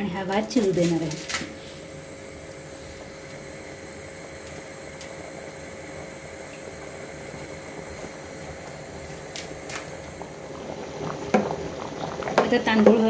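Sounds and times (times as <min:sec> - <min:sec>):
water bubbling in a pan: 0:01.5 - 0:13.0.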